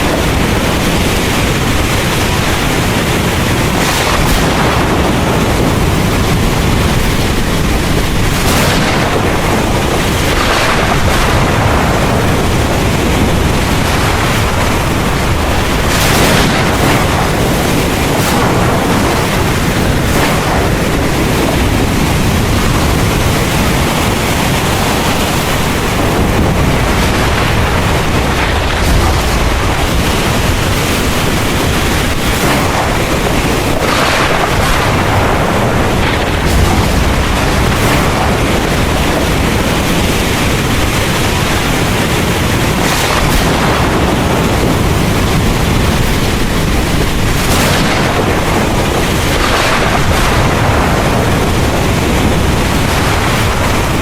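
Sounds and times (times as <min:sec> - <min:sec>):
heavy rain pouring: 0:00.0 - 0:54.0
low rumble of thunder: 0:00.0 - 0:54.0.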